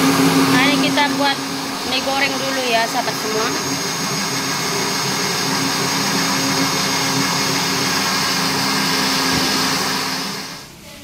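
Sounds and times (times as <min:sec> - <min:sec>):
electric blender whirring: 0:00.0 - 0:10.7.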